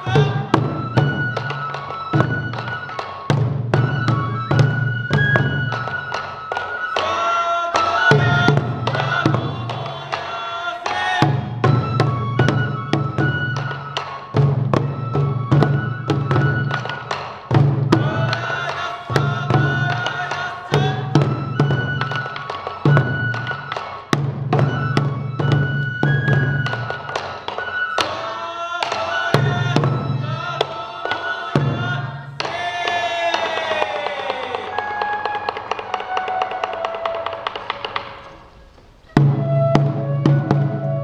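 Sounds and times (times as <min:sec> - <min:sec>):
bamboo flutes: 0:00.0 - 0:41.0
taiko drums: 0:00.0 - 0:41.0.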